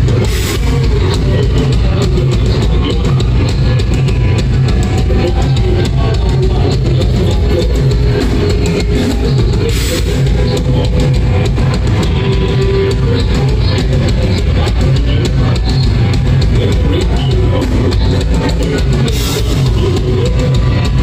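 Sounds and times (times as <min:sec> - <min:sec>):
guitar: 0:00.0 - 0:21.0
live rock band playing: 0:00.0 - 0:21.0
pounding drum kit: 0:00.0 - 0:21.0.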